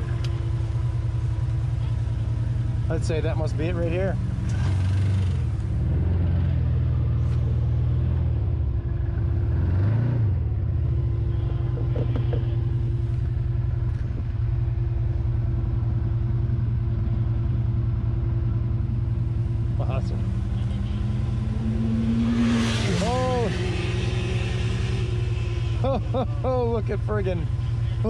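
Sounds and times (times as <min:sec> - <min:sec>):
vehicle engine running and revving: 0:00.0 - 0:28.0.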